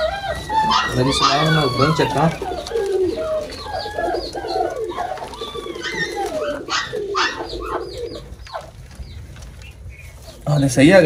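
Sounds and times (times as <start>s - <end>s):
birds chirping: 0.0s - 11.0s
pigeons cooing: 0.0s - 11.0s.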